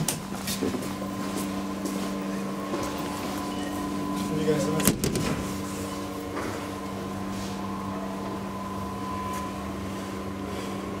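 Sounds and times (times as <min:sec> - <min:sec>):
hydraulic elevator humming: 0:00.0 - 0:11.0.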